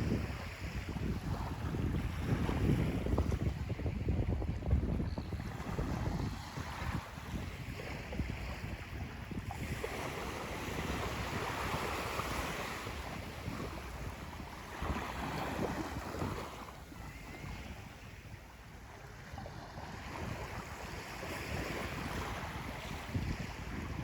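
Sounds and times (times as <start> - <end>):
small waves washing onto sand: 0.0 - 24.0
wind buffeting microphone: 0.0 - 24.0.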